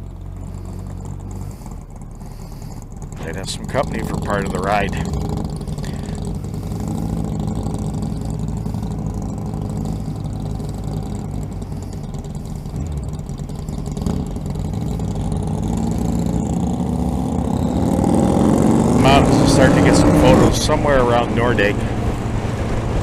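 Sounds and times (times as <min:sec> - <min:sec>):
motorcycle engines running: 0:00.0 - 0:23.0.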